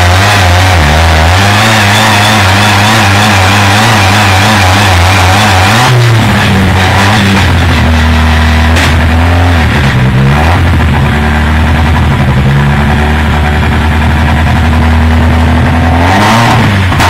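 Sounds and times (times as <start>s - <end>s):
car engine revving steadily: 0.0s - 17.0s.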